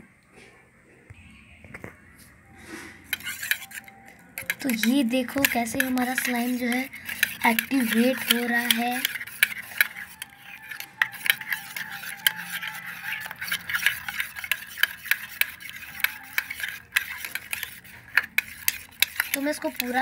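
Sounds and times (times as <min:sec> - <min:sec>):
spoon scraping steel bowl: 0:02.6 - 0:20.0.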